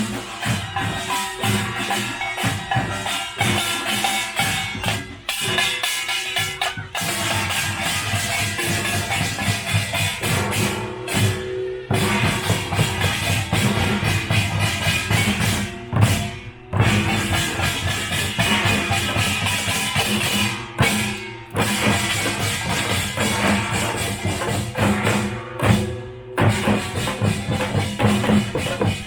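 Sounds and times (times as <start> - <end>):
percussion band drums and gongs: 0.0 - 29.0.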